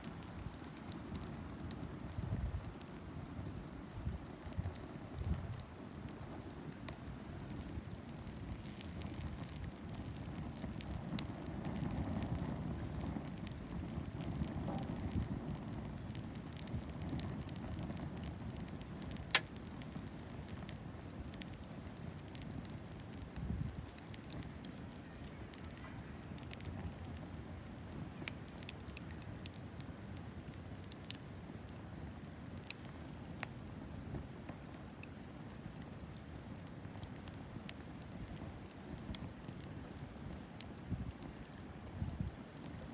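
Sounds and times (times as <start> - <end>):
bonfire crackling and popping: 0.0 - 42.9.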